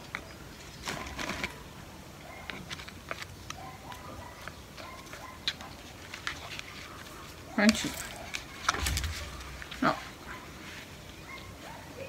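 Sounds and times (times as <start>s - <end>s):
bark mulch clicking and rustling: 0.0s - 10.3s.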